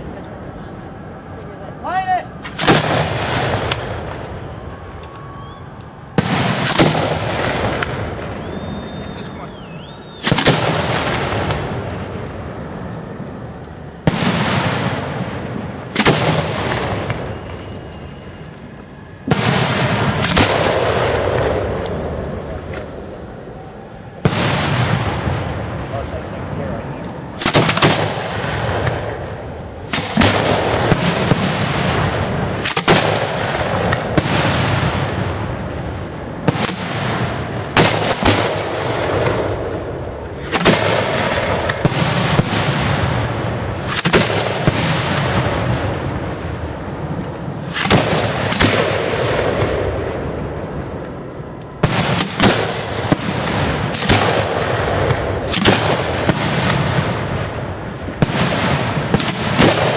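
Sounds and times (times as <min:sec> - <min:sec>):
fireworks crackling rumble: 0:00.0 - 0:59.9
firework shells banging: 0:02.4 - 0:13.0, 0:13.6 - 0:23.1, 0:26.8 - 0:59.9.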